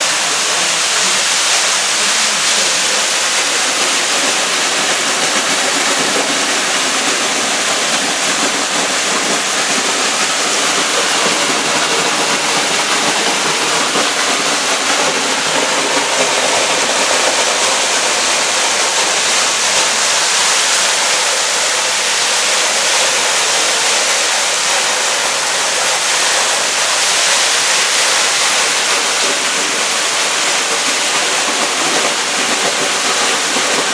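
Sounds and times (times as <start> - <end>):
torrential rain pouring: 0.0 - 33.9.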